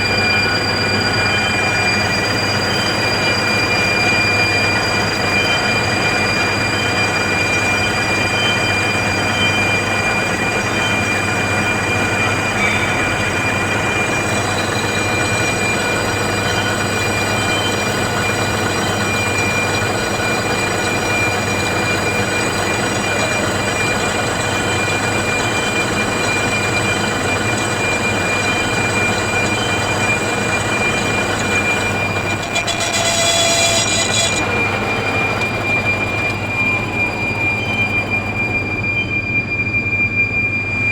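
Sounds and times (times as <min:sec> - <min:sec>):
machine rushing and whining: 0:00.0 - 0:39.6
shrill machine edge: 0:00.0 - 0:40.8.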